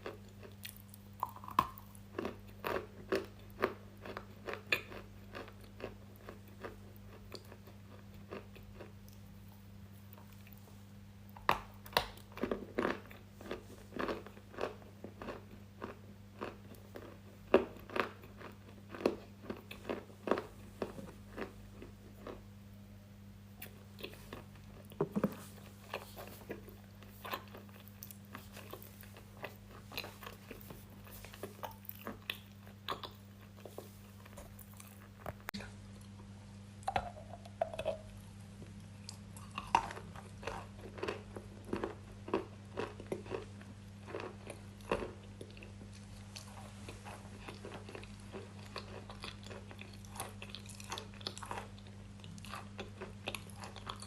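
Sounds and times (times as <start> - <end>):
crunchy chewing: 0.0 - 9.5, 11.3 - 22.5, 23.6 - 36.1, 37.6 - 54.0
steady low hum: 0.0 - 54.0.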